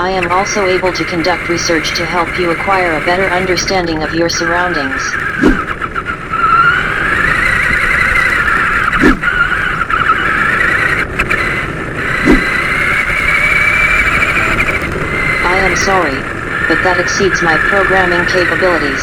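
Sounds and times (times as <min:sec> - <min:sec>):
rc car electric motor whining: 0:00.0 - 0:19.0.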